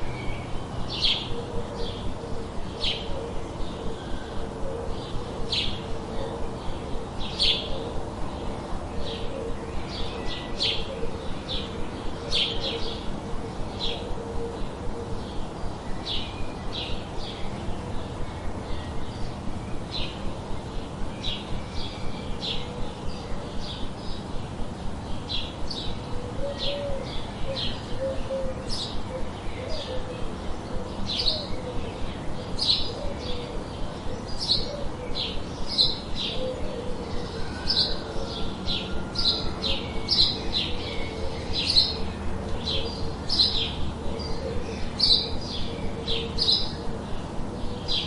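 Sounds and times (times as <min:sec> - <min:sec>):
low background hiss: 0:00.0 - 0:48.0
small birds chirping: 0:00.0 - 0:48.0.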